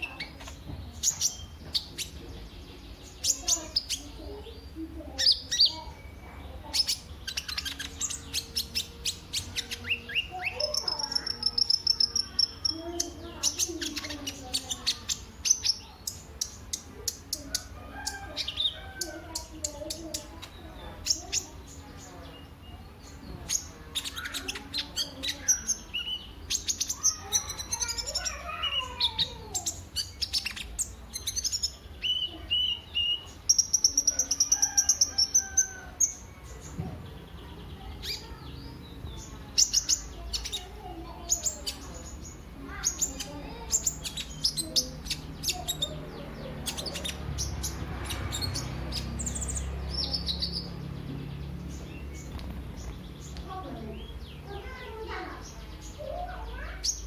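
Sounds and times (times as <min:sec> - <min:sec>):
sunbird singing: 0:00.0 - 0:57.0.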